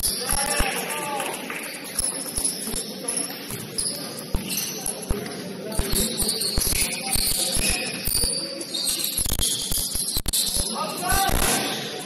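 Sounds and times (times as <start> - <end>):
sneakers squeaking on gym floor: 1.5 - 12.0.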